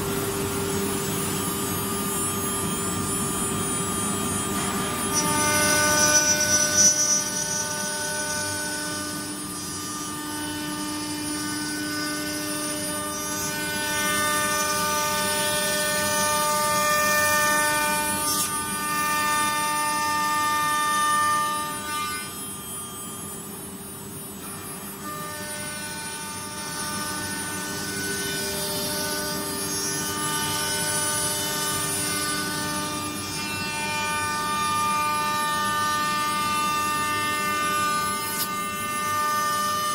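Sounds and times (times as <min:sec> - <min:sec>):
cnc router spindle whine: 0:00.0 - 0:39.9.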